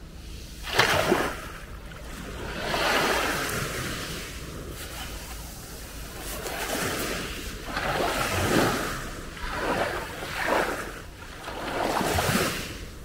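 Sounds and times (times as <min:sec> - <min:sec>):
waves breaking on pebble beach: 0:00.7 - 0:13.0.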